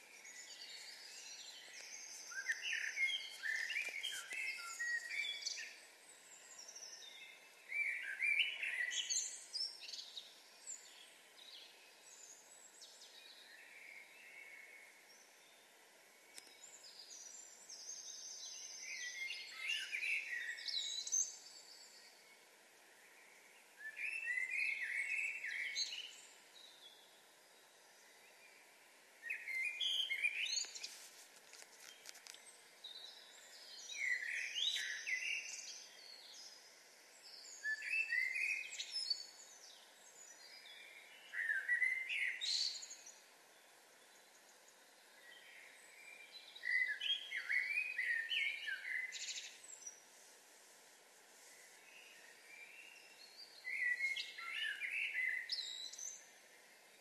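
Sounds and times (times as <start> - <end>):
faint steady hiss: 0.0 - 57.0
songbirds singing: 0.0 - 57.0.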